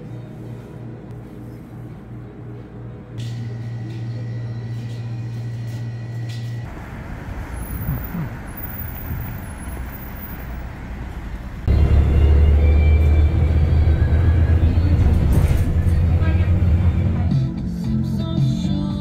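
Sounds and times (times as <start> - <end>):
low indoor hum: 0.0 - 17.3
bus running at stop: 0.0 - 19.0
loud bus engine drone: 2.2 - 18.3.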